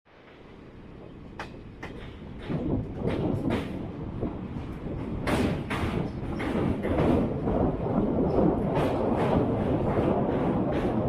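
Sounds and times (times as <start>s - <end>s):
train rumbling on rails: 0.1s - 11.0s
train wheels clanking: 1.0s - 11.0s.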